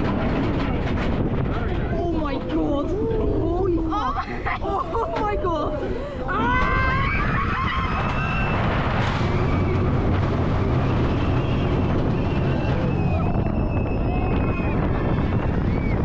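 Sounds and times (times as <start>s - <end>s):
roller coaster train rumbling: 0.0s - 16.0s
wind rushing on microphone: 0.0s - 16.0s.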